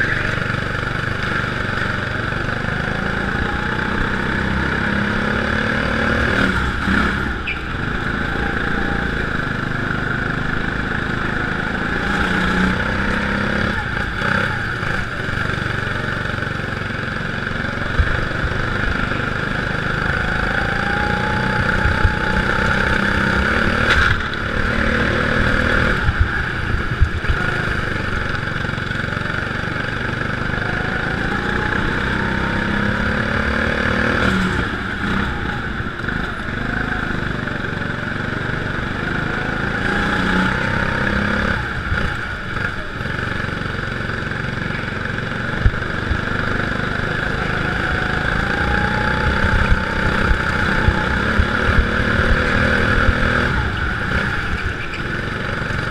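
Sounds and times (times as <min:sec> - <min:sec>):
go-kart engine revving: 0:00.0 - 0:55.9.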